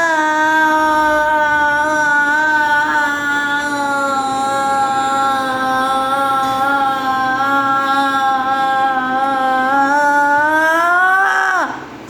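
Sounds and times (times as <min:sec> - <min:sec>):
voice holding long vowel: 0:00.0 - 0:12.0.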